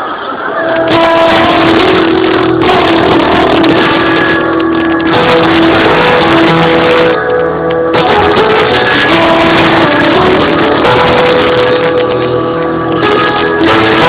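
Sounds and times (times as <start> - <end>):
distorted circus music: 0.0 - 14.0.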